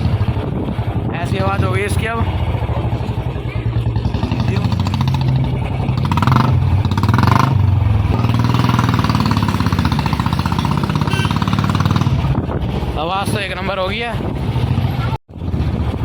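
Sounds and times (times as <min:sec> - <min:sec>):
motorcycle engine exhaust beat: 0:00.0 - 0:13.4.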